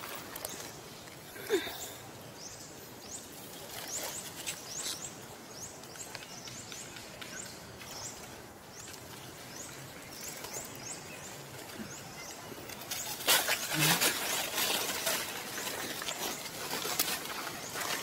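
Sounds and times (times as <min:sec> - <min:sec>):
small birds chirping: 0:00.0 - 0:18.0
soft outdoor hiss: 0:00.0 - 0:18.0.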